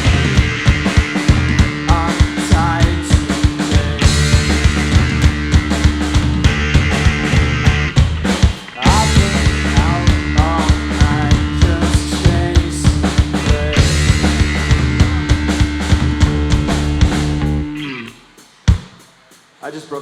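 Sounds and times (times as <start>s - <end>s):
electric guitar: 0.0s - 18.3s
bass guitar: 0.0s - 18.4s
drum kit: 0.0s - 20.0s.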